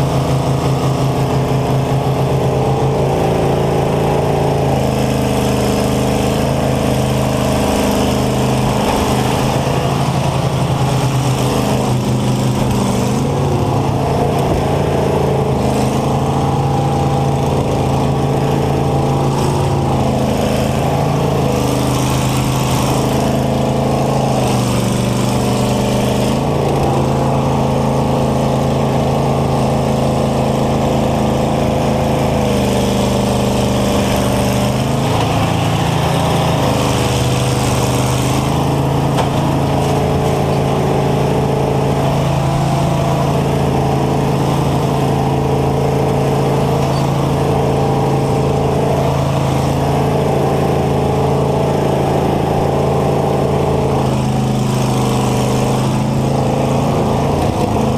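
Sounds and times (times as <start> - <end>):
combine harvester engine running: 0.0 - 57.9.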